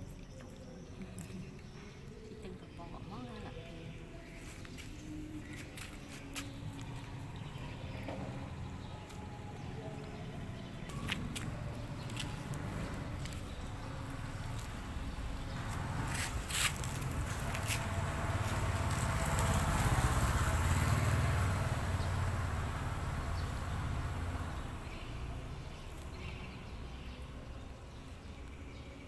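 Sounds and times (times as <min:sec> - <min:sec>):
passing vehicle engine rumble: 0:03.4 - 0:29.0.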